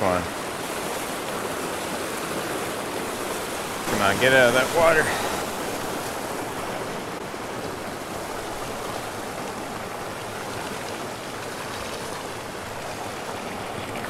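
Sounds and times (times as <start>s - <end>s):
river rushing over boulders: 0.0s - 14.0s.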